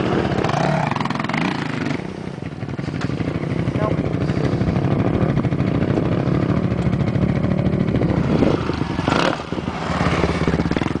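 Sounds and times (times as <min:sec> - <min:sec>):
quad engine running hard: 0:00.0 - 0:11.0.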